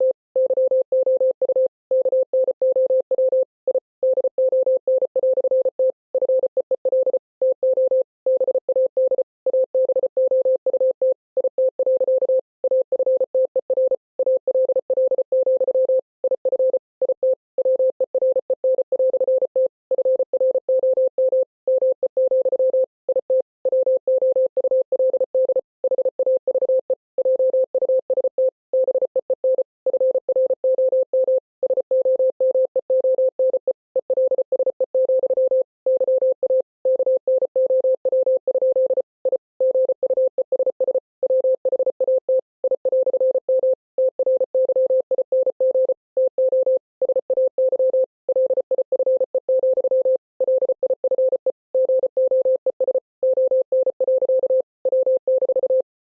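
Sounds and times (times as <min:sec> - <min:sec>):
morse code beeps: 0:00.0 - 0:55.9.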